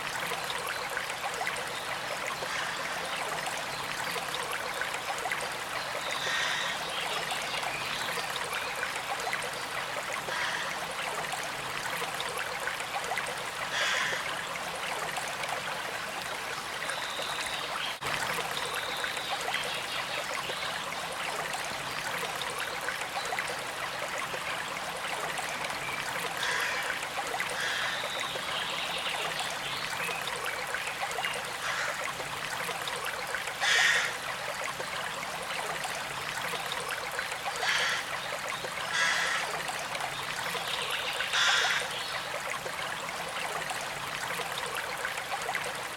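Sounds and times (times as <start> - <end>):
stream of water trickling: 0.0 - 45.9.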